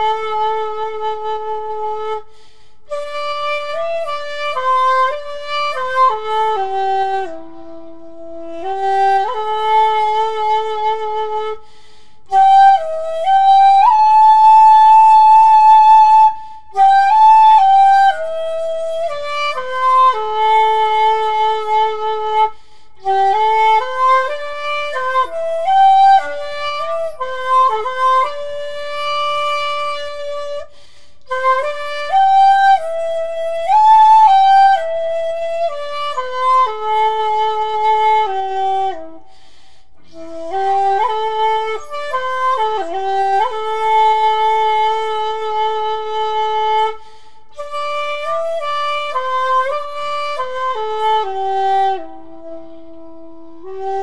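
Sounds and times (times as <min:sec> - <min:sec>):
bamboo flute melody: 0:00.0 - 0:54.0.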